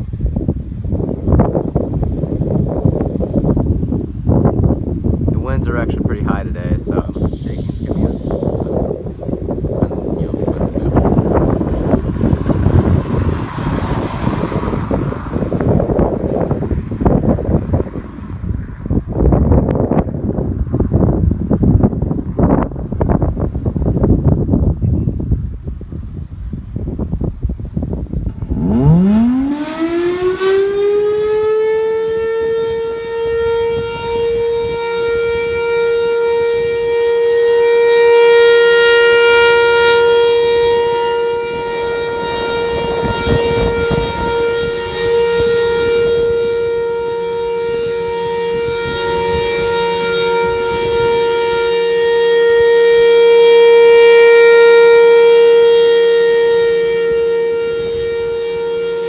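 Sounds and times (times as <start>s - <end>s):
warning siren wailing: 7.8s - 25.2s, 27.3s - 59.0s.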